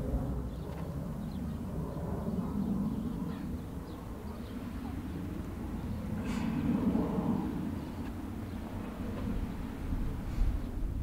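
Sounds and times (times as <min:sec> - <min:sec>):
steady low rumble: 0:00.0 - 0:11.0
faint bird calls: 0:00.2 - 0:09.6.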